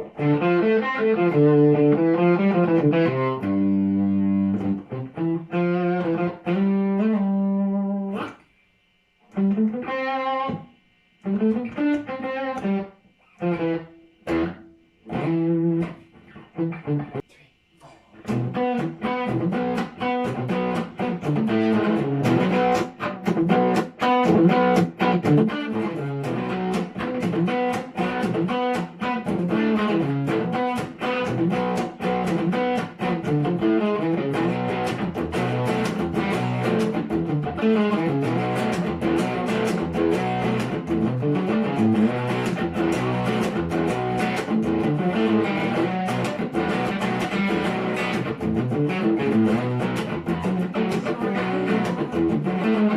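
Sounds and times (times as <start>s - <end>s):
guitar picking notes and chords: 0.0s - 8.4s, 9.3s - 17.3s, 18.2s - 52.9s.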